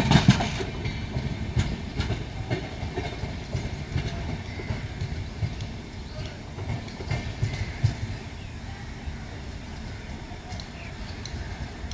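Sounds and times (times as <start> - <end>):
low train rumble: 0.0 - 11.9
train wheels clattering over rail joints: 0.0 - 11.9.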